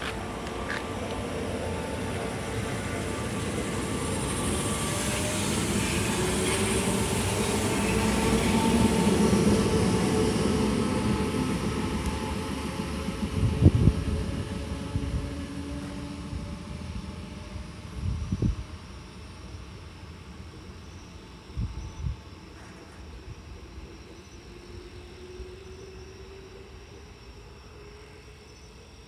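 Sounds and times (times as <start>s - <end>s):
electric train motor whine: 0.0s - 29.0s.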